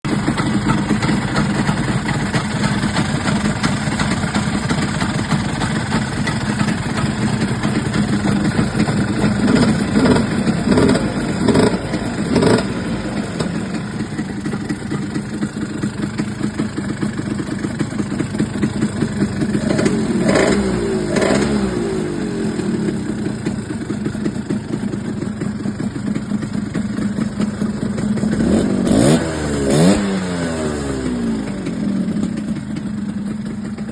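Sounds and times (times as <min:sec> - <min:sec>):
scooter engine idling and revving: 0:00.0 - 0:33.9.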